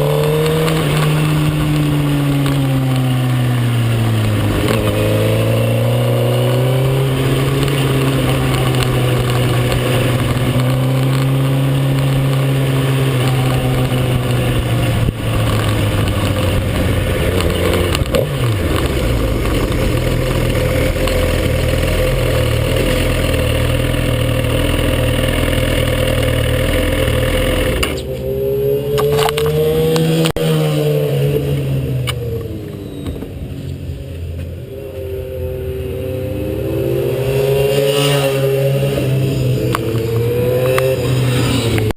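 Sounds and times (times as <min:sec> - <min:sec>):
motorcycle engine at racing speed: 0:00.0 - 0:41.9.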